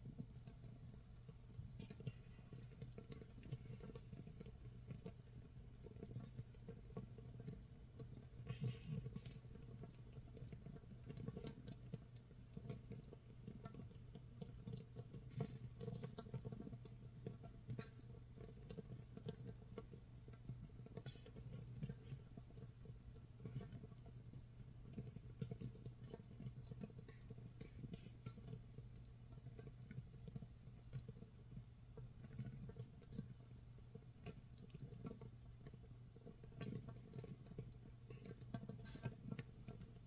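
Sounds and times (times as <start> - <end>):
fermenting mash bubbles popping: 0.0 - 40.0.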